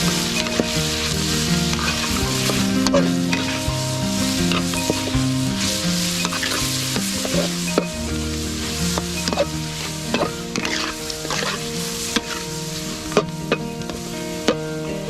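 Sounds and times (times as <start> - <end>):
meat sizzling in a pan: 0.0 - 14.3.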